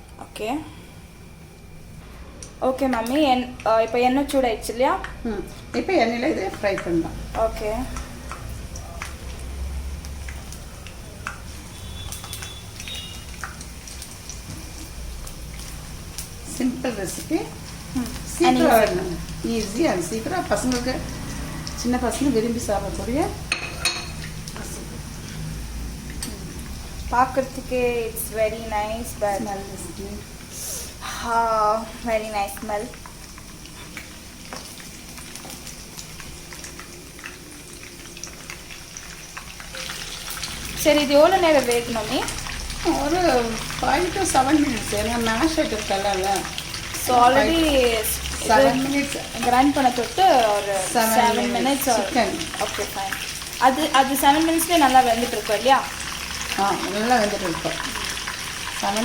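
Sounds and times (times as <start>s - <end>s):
food frying in hot oil: 0.0s - 59.0s.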